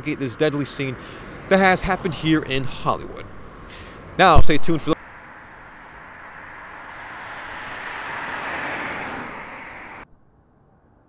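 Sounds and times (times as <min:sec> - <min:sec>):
vehicle passing by: 0:00.2 - 0:10.1.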